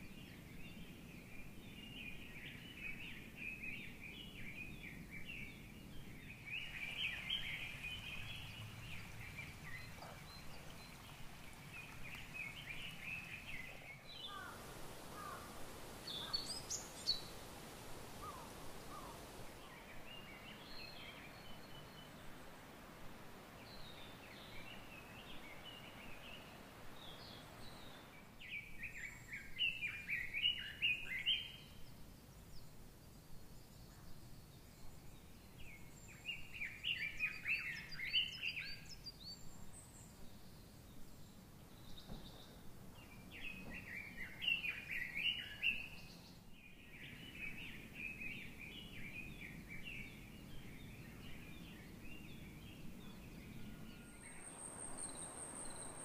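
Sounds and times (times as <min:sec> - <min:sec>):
birds singing: 0:00.0 - 0:56.0
outdoor hiss: 0:02.8 - 0:56.0.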